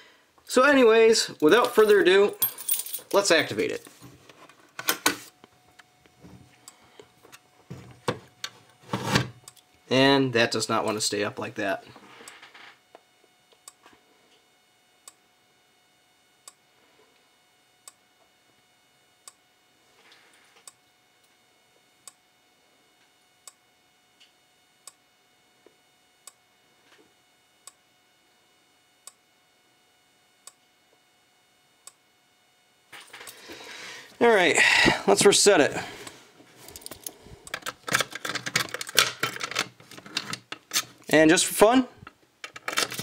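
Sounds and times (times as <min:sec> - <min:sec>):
faint steady whine: 0:00.0 - 0:43.0.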